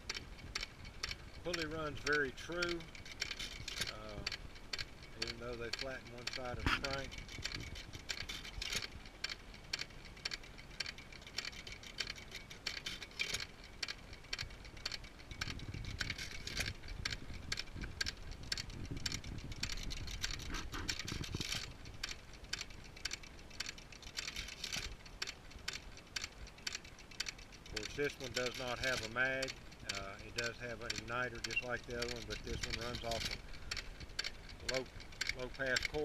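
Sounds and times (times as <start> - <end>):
old stationary engine running: 0.0 - 36.0
valve gear clicking clatter: 0.0 - 36.0.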